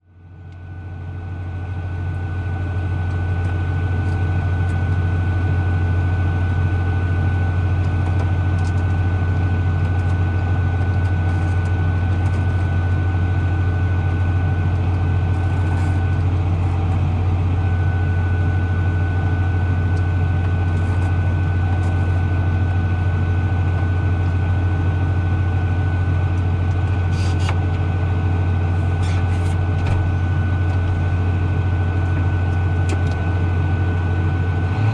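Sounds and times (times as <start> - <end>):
tractor engine idling: 1.3 - 34.6.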